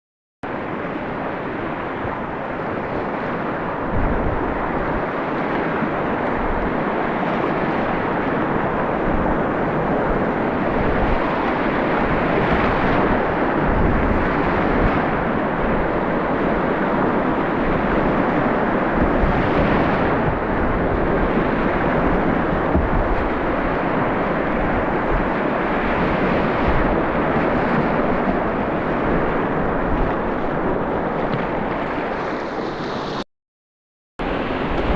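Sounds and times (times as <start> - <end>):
rushing whitewater: 0.5 - 33.2, 34.2 - 34.9
wind buffeting microphone: 0.5 - 33.2, 34.2 - 34.9.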